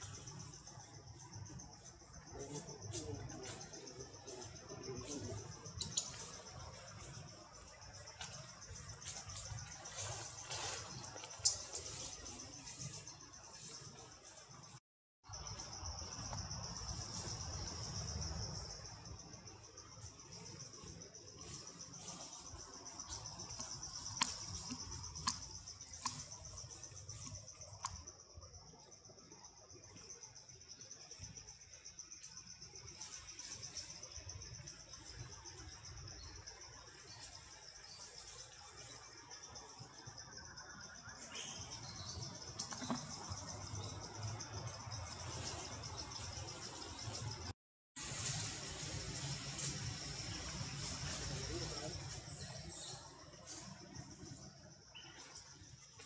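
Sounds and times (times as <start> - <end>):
insects chirring in a trill: 0.0 - 56.0.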